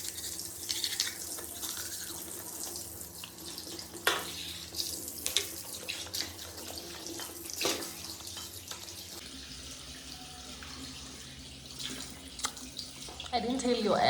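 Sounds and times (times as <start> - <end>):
tap water running into sink: 0.0 - 14.0.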